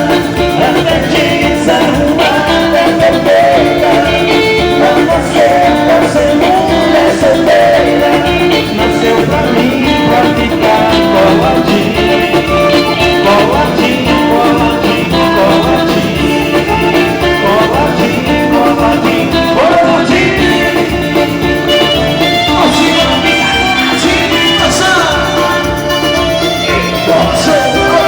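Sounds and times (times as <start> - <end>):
live band music: 0.0 - 28.0
person singing: 0.0 - 28.0.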